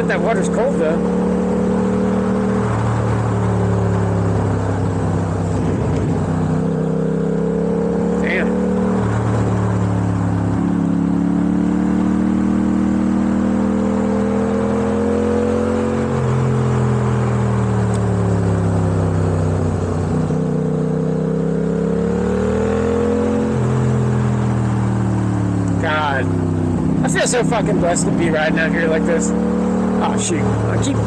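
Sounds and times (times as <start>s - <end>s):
motorcycle engine under load: 0.0s - 31.0s.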